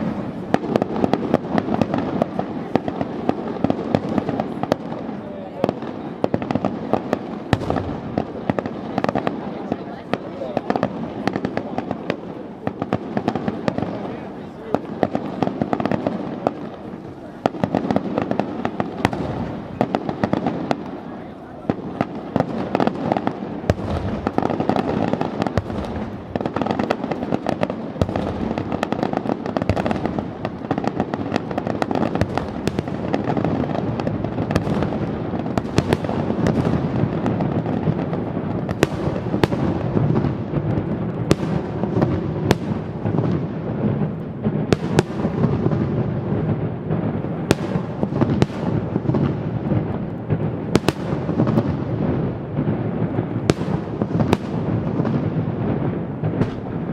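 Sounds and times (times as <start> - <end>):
fireworks crackling and banging: 0.0 - 56.9.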